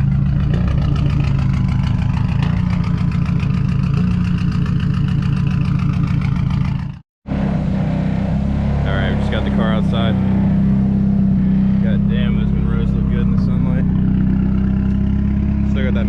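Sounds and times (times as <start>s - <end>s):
car engine idling with misfire: 0.0s - 7.4s, 8.8s - 10.2s, 11.2s - 16.0s.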